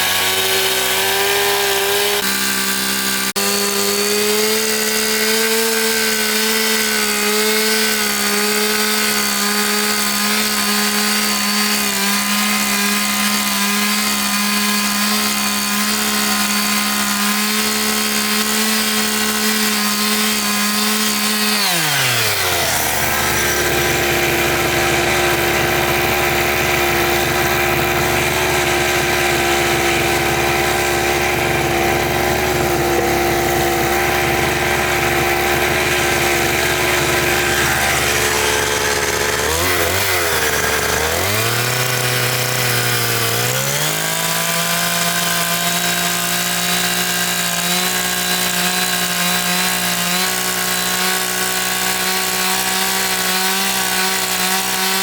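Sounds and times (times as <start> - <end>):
small engine revving and idling: 0.0 - 55.0.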